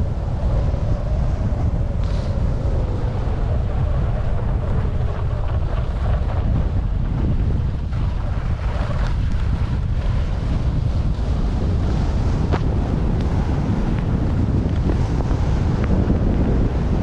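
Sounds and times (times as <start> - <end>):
wind buffeting microphone: 0.0 - 17.0
skis scraping over snow: 3.2 - 17.0.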